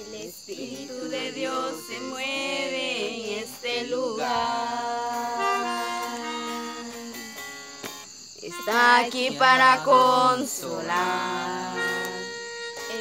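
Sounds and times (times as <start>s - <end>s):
people singing: 0.0s - 7.5s, 8.4s - 13.0s.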